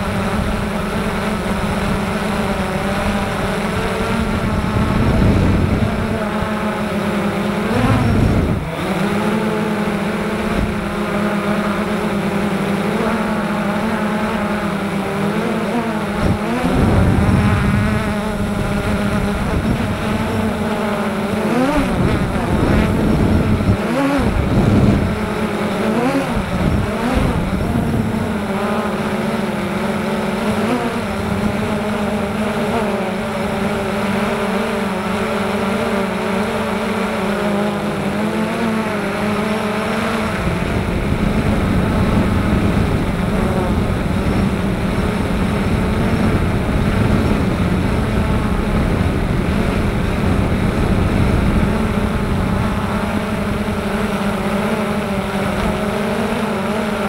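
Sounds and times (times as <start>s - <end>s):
drone propellers buzzing whine: 0.0s - 57.0s
wind rumble on microphone: 0.0s - 57.0s.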